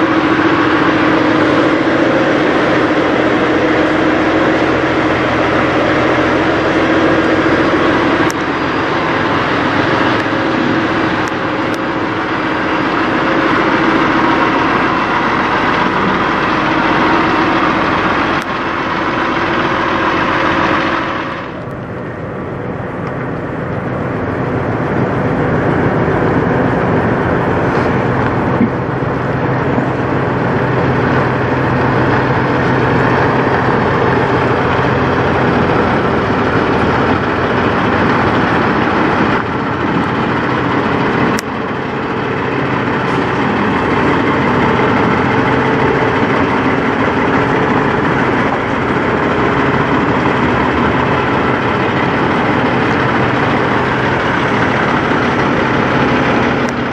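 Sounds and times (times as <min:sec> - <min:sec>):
diesel truck engines rumbling: 0:00.0 - 0:56.9.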